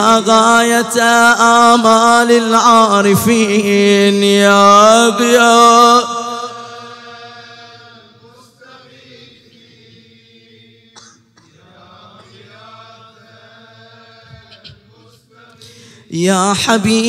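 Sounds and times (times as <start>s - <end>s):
recitation: 0.0s - 17.0s.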